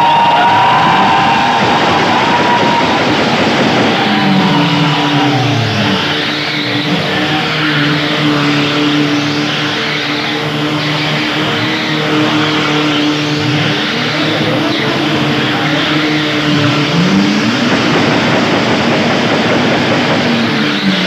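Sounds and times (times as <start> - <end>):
buggy engine running hard: 0.0 - 21.0.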